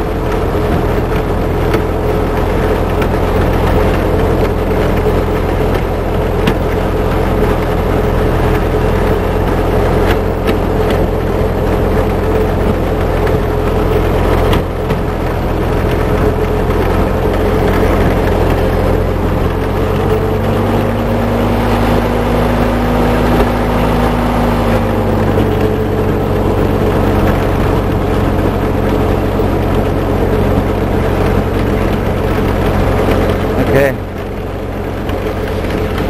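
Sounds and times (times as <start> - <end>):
snowblower throwing snow: 0.0 - 36.0
tractor engine running: 0.0 - 36.0.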